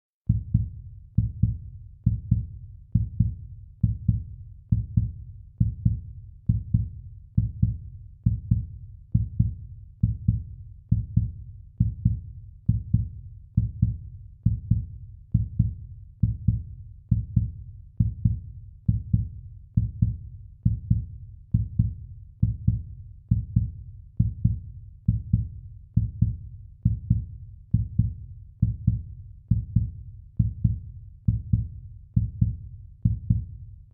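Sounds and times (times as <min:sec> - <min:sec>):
heartbeat thumps: 0:00.3 - 0:33.5.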